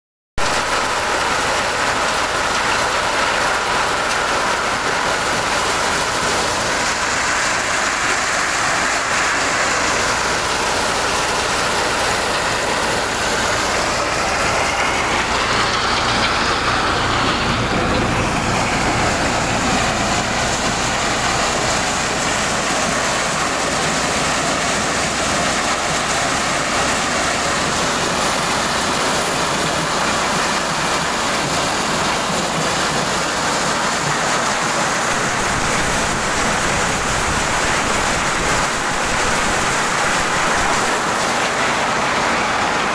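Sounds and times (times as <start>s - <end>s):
diesel tractor engine: 0.4s - 42.9s
thresher drum running: 0.4s - 42.9s.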